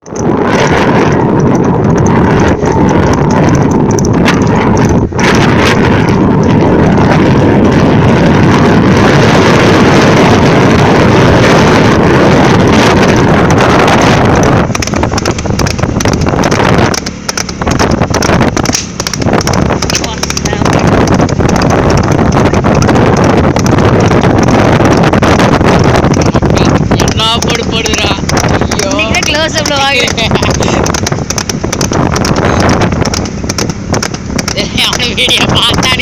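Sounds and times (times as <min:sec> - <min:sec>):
vehicle and road noise: 0:00.0 - 0:36.0
wind buffeting microphone: 0:00.0 - 0:36.0.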